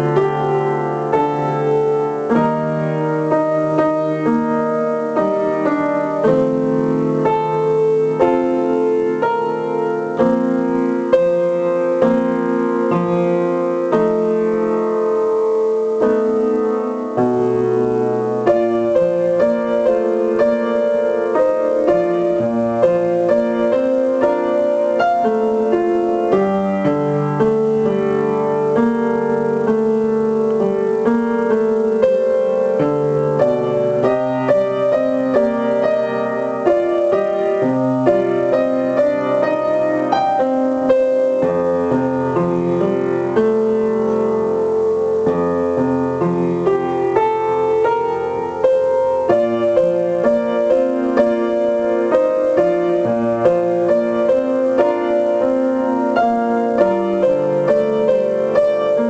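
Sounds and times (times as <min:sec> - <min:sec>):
piano ballad: 0:00.0 - 0:59.0.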